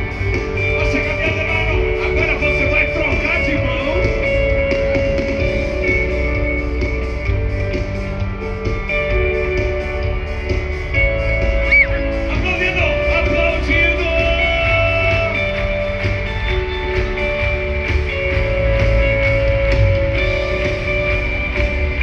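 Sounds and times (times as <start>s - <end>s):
live worship band music: 0.0s - 22.0s.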